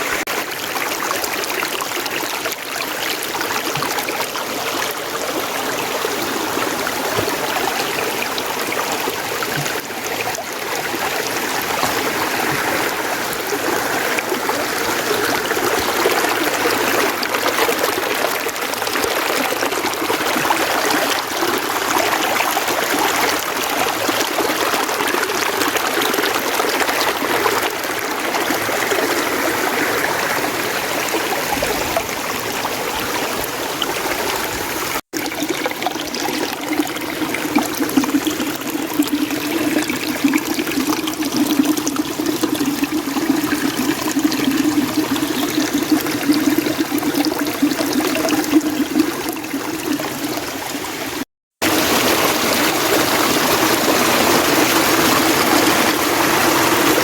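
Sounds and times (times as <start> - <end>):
stream splashing over rocks: 0.0 - 57.0.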